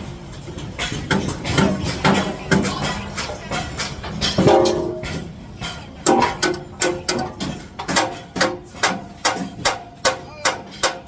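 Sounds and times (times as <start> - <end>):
hammer knocking on metal panels: 0.8 - 11.0.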